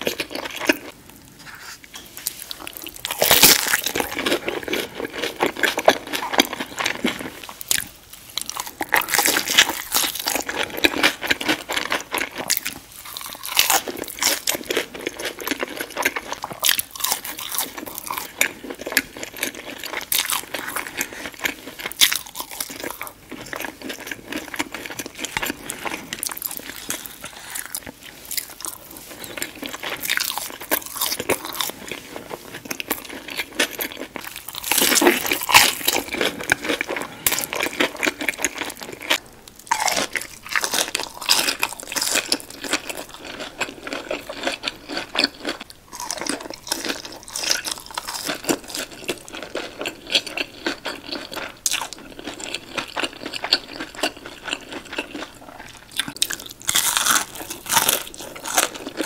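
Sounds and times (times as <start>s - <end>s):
crunching of fried food: 0.0s - 59.0s.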